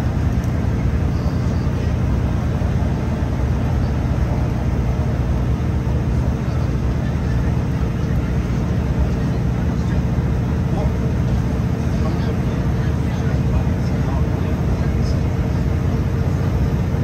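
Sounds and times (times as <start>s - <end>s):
train interior low drone: 0.0s - 17.0s.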